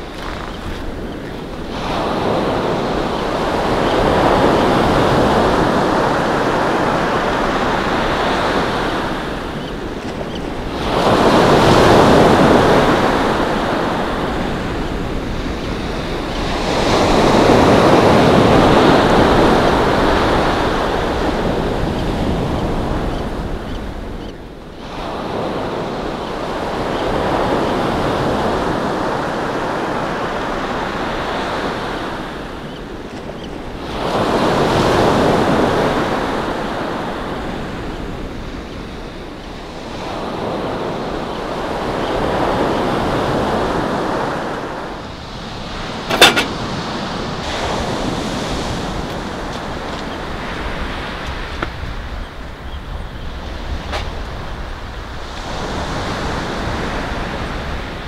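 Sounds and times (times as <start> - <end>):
ocean surf breaking: 0.0 - 52.6.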